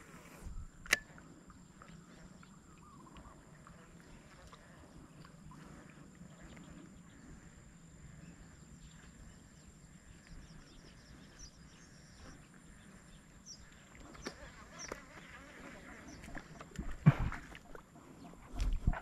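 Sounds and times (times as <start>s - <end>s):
faint bird chirps: 0.4s - 19.0s.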